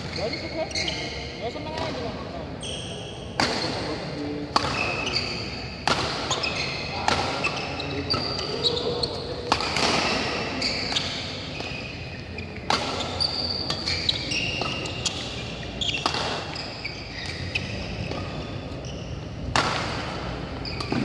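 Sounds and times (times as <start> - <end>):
shoes squeaking on court: 0.0 - 4.0, 4.6 - 21.0
rackets hitting shuttlecock: 3.2 - 21.0.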